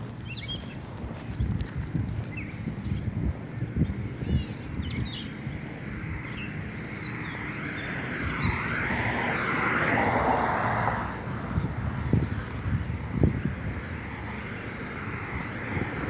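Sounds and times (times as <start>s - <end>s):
footsteps on pavement: 0.0s - 16.0s
vehicle passing: 2.3s - 16.0s.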